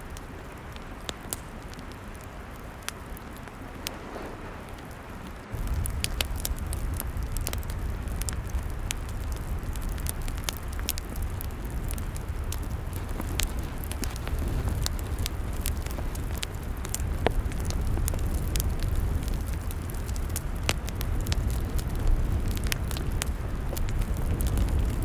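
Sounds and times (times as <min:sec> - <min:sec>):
log fire crackling: 0:00.0 - 0:25.0
low steady rumble: 0:03.4 - 0:25.0.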